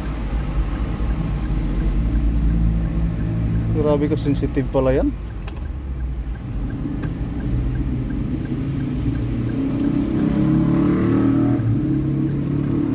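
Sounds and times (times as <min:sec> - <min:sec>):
car engine and road noise: 0:00.0 - 0:12.9.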